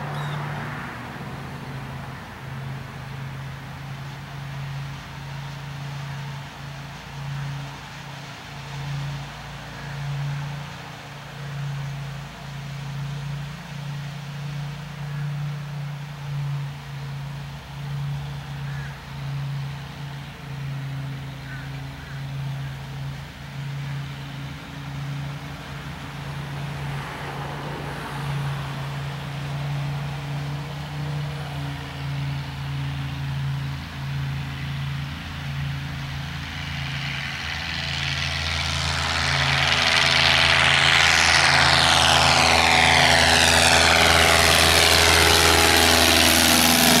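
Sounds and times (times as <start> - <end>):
propeller plane engine: 0.0 - 47.0.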